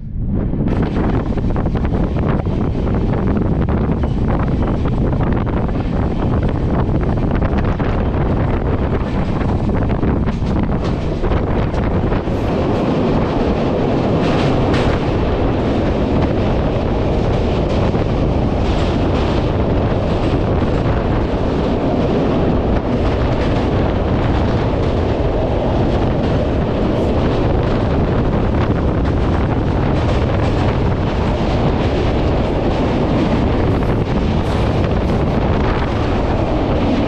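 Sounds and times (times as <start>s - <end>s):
train wheels on a bridge: 0.0s - 37.0s
wind buffeting microphone: 0.0s - 37.0s.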